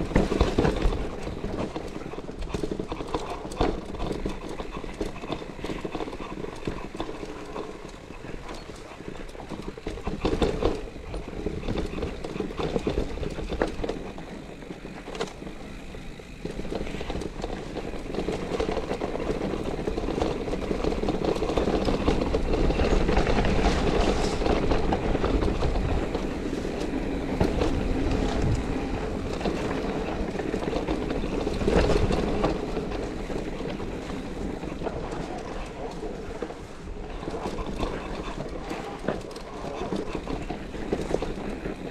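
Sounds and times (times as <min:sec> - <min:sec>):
bike rattling and clattering: 0:00.0 - 0:41.9
bike tyres crunching over stones: 0:00.0 - 0:41.9.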